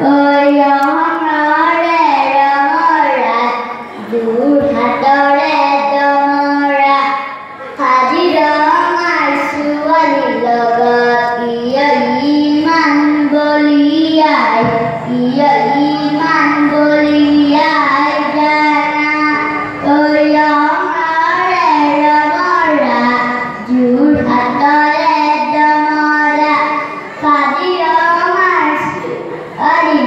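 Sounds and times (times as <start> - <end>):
boy singing into a microphone: 0.0 - 30.0.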